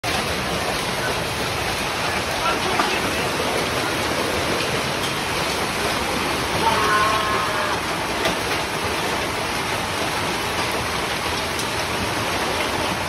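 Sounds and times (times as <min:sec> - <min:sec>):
heavy rain: 0:00.0 - 0:13.0
strong wind: 0:00.2 - 0:13.0.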